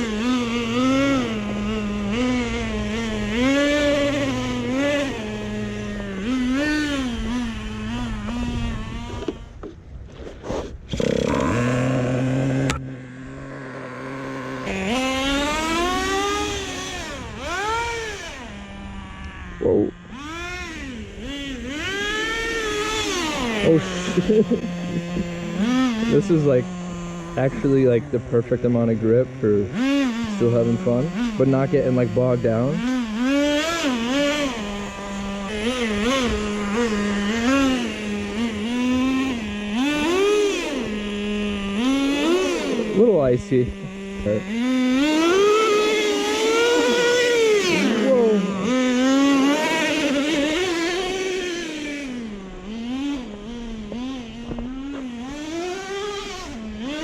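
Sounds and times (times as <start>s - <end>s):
model engine revving: 0.0s - 57.0s.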